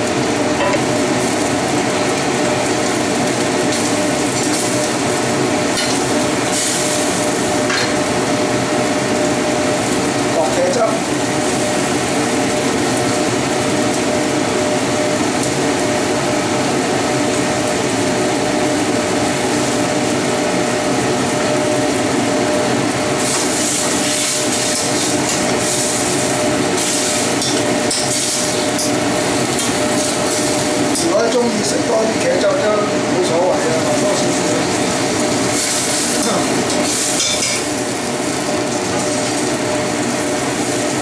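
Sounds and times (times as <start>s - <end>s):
food sizzling in a wok: 0.0s - 41.0s
steady hum: 0.0s - 41.0s.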